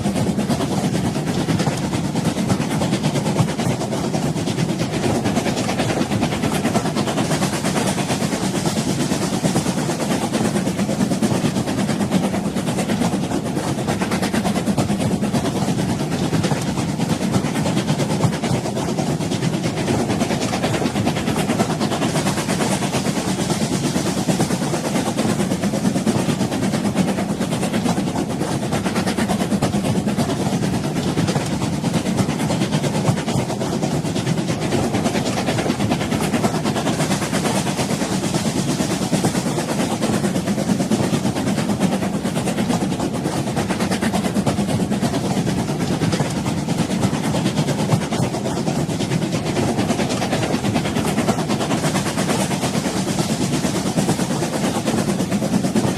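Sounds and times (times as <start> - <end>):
train rumbling along track: 0.0 - 55.9.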